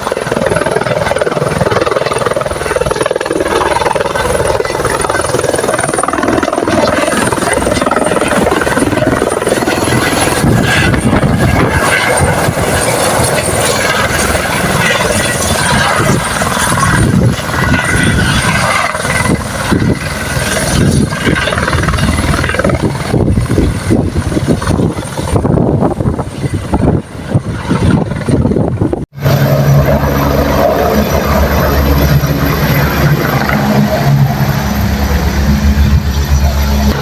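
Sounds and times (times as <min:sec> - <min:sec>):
helicopter rotor chopping: 0:00.0 - 0:37.0
low helicopter hum: 0:00.0 - 0:37.0.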